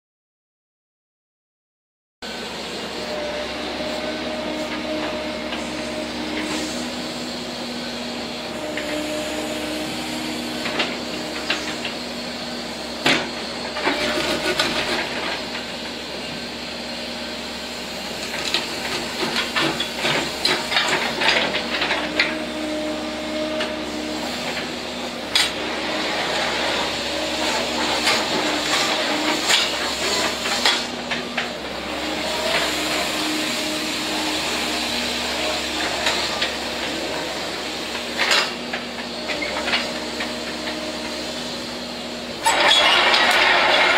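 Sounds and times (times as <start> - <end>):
excavator engine hum: 2.2 - 43.9
hydraulic whine: 2.2 - 43.9.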